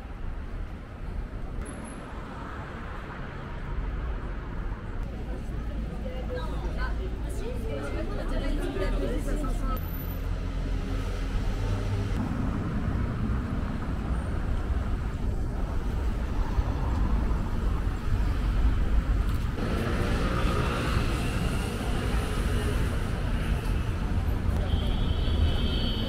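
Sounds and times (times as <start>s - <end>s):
low traffic rumble: 0.0s - 26.0s
cars passing: 1.5s - 24.7s.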